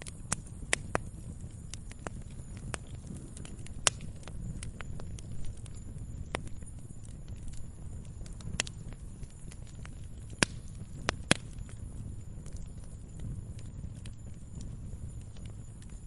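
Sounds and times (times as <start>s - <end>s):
fire crackling and popping: 0.0s - 16.0s
log fire rumbling: 0.0s - 16.0s.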